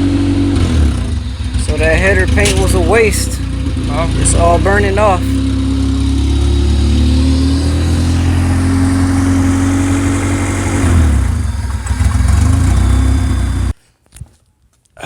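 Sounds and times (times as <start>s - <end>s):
car engine idling: 0.0s - 13.7s.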